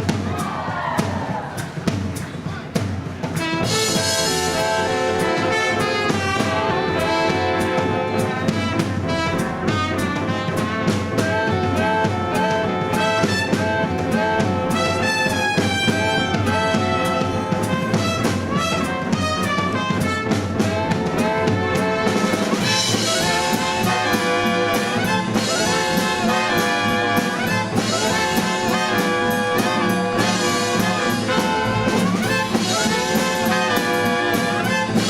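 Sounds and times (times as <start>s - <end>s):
jazz dance band playing: 0.0s - 35.0s.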